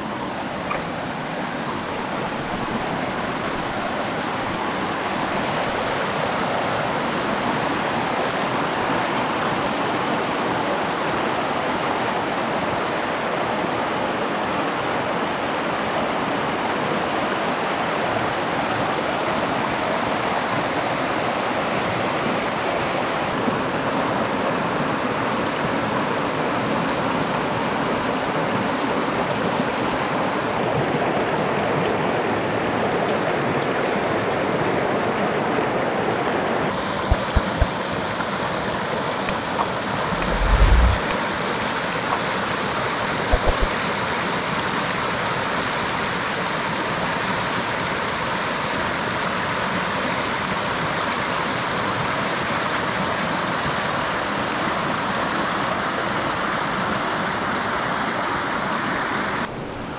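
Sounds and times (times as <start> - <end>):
water rushing over rocks: 0.0 - 33.5, 35.6 - 59.5.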